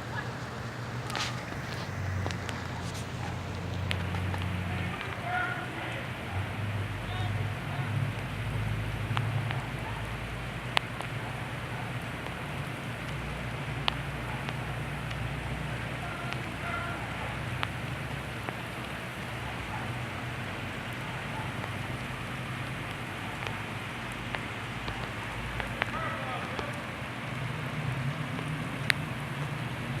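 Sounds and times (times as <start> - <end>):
rain falling: 0.0 - 30.0
drips and taps: 1.0 - 29.9.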